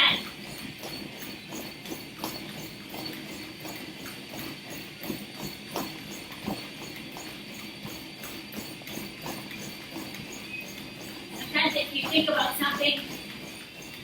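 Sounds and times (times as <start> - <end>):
footfalls on treadmill belt: 0.0 - 14.0
treadmill hum: 0.0 - 14.0.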